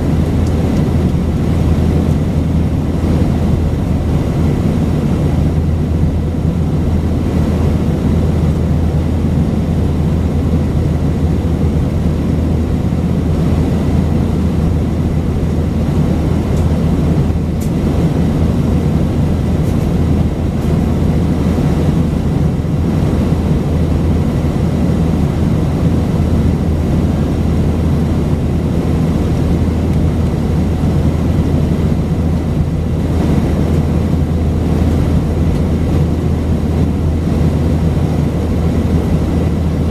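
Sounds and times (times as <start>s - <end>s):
airplane cabin engine hum: 0.0s - 39.9s
rushing airflow: 0.0s - 39.9s.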